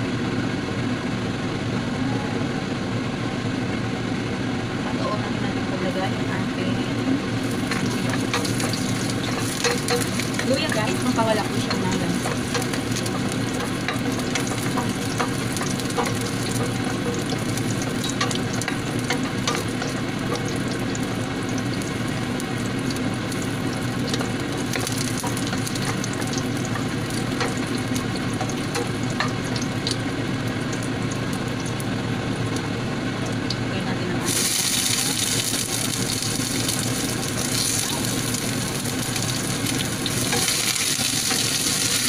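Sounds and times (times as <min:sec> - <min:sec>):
garlic sizzling in hot oil: 0:06.9 - 0:33.6, 0:34.2 - 0:42.0.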